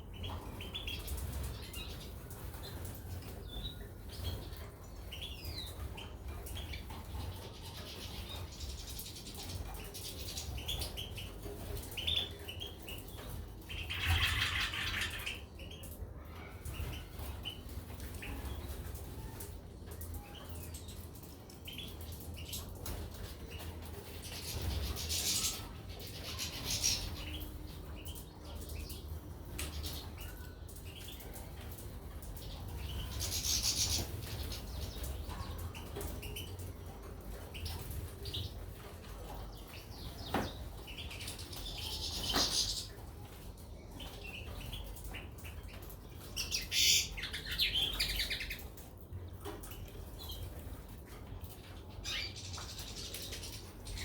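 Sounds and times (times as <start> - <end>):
caged birds chirping and twittering: 0.0 - 54.0.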